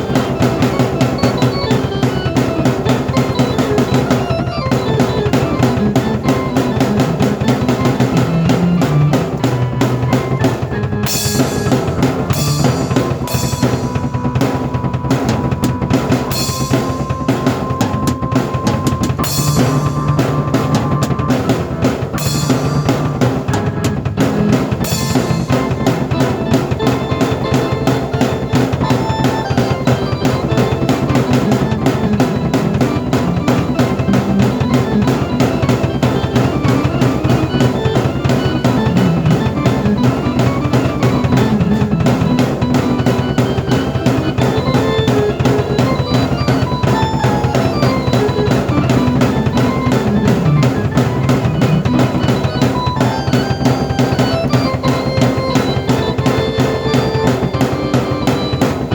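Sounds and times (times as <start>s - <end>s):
fast drum beat: 0.0s - 58.9s
keyboard notes: 0.0s - 58.9s.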